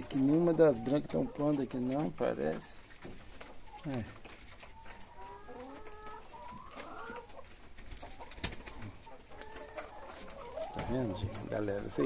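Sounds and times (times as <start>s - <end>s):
hens clucking quietly: 0.0s - 12.0s.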